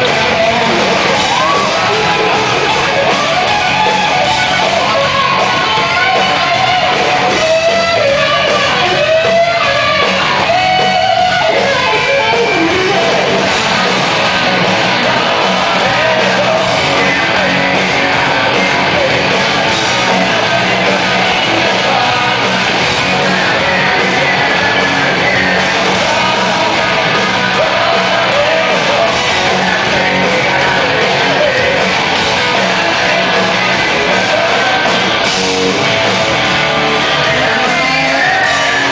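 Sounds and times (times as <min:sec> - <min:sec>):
drums: 0:00.0 - 0:38.9
electric guitars: 0:00.0 - 0:38.9
lead singer: 0:00.0 - 0:38.9
live hard rock band: 0:00.0 - 0:38.9.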